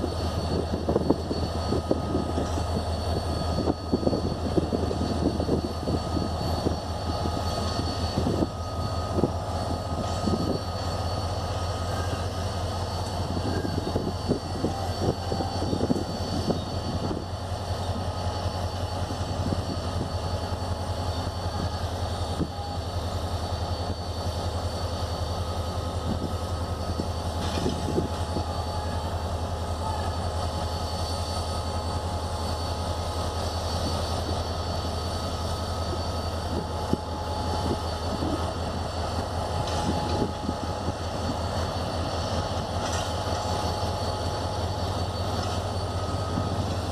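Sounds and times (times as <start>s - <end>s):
locomotive engine droning: 0.0s - 46.9s.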